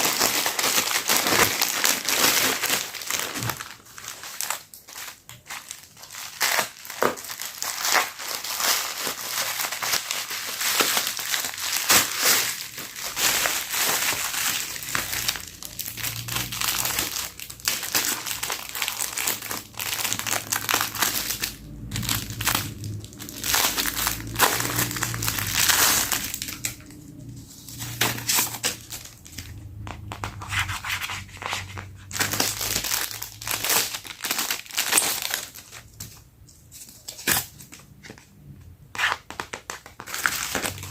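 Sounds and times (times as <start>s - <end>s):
packaging rustling and tearing: 0.0s - 38.2s, 38.9s - 40.9s.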